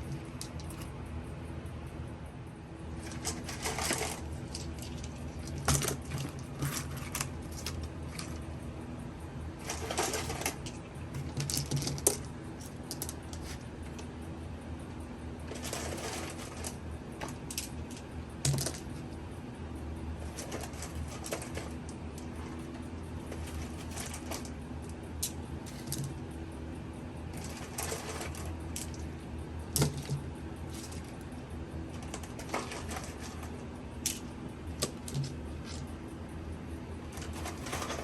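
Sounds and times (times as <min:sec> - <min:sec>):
objects clicking and rustling: 0:00.0 - 0:01.0, 0:02.9 - 0:08.6, 0:09.6 - 0:14.1, 0:15.4 - 0:19.1, 0:20.2 - 0:26.3, 0:27.3 - 0:36.0, 0:37.0 - 0:38.0
steady low hum: 0:00.0 - 0:38.0.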